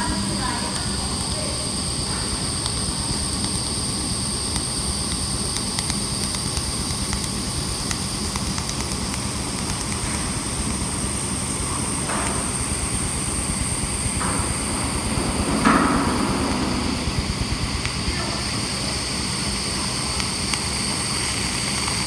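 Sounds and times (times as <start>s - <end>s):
laser welding machine whirring: 0.0s - 22.0s.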